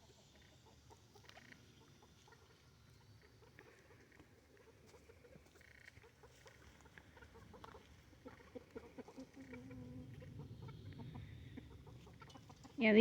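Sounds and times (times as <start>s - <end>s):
chickens clucking: 0.1s - 12.8s.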